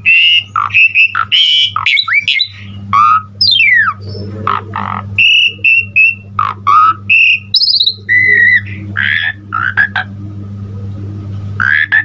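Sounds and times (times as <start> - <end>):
starling singing whistles and squawks: 0.0 - 10.1, 11.6 - 12.0.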